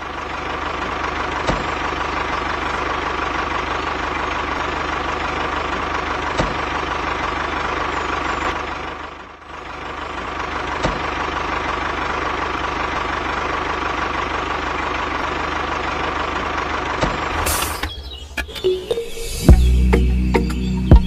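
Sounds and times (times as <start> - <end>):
diesel tractor engine idling: 0.0 - 21.0.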